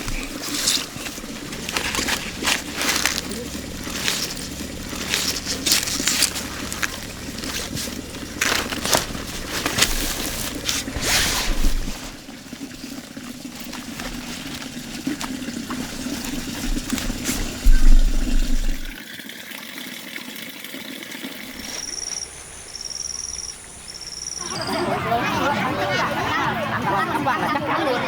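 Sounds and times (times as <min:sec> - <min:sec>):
water pouring and splashing: 0:00.0 - 0:24.2.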